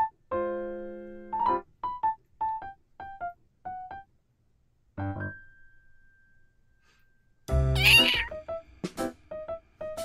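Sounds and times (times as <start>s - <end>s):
piano melody: 0.0s - 4.2s, 5.0s - 6.7s, 7.5s - 10.0s.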